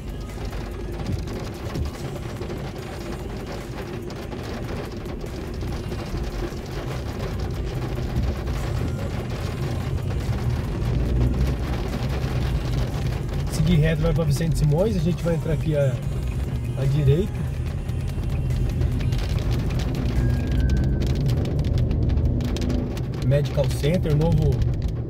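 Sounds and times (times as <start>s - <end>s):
car engine and road rumble: 0.0s - 25.0s
heavy rain on car roof: 0.0s - 25.0s.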